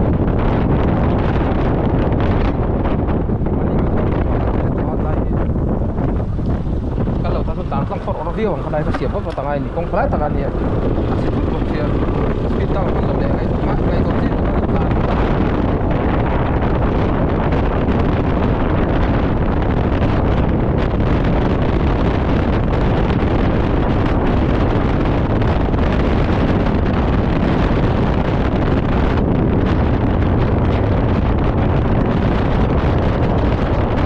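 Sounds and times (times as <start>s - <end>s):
road noise: 0.0s - 34.0s
wind buffeting microphone: 0.0s - 34.0s.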